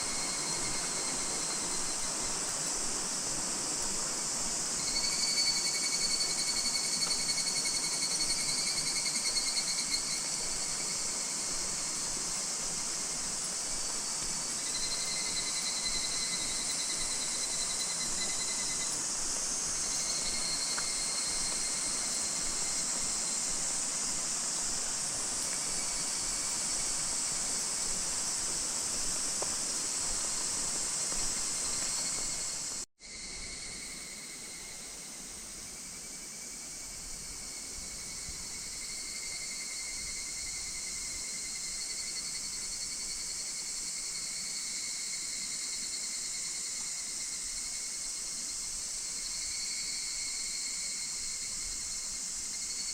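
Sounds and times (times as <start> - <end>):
cicadas calling in chorus: 0.0 - 52.9
steady high insect hiss: 0.0 - 52.9.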